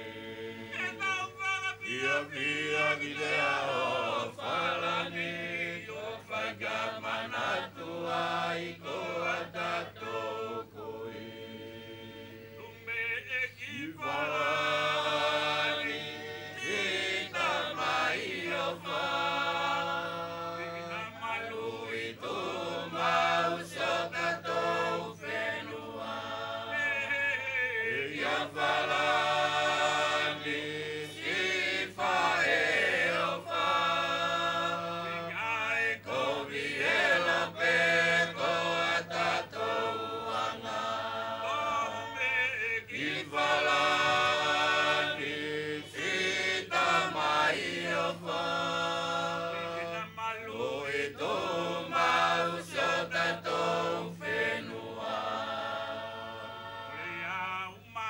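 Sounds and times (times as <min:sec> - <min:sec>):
mixed chorus singing a chant: 0:00.0 - 0:58.0.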